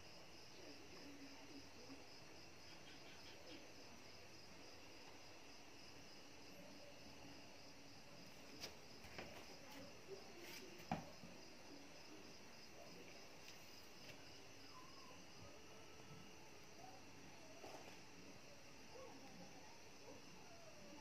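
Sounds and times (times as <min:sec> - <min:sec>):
faint high-pitched hum: 0:00.0 - 0:21.0.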